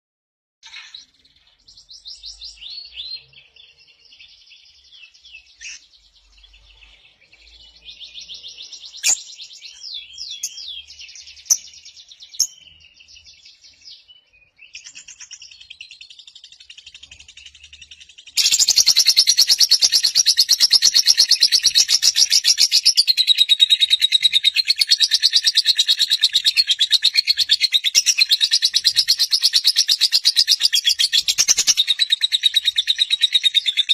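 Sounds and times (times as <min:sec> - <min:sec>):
bird chirping and trilling: 0:00.6 - 0:33.9.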